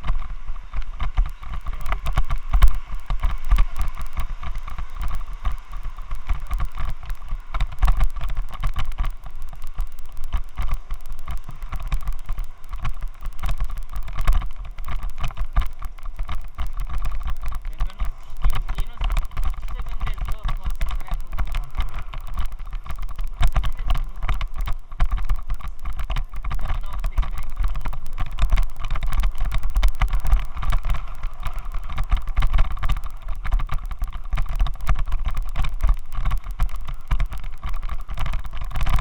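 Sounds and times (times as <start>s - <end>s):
low rumble: 0.0s - 39.0s.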